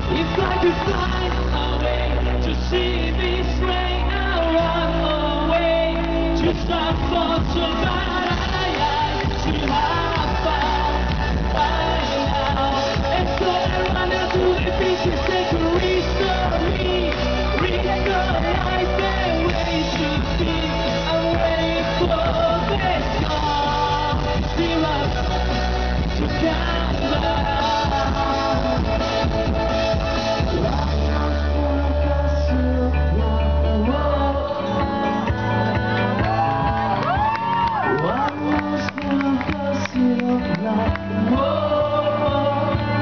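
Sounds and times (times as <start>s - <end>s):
lead voice singing: 0.0s - 43.0s
pop-rock band playing live: 0.0s - 43.0s.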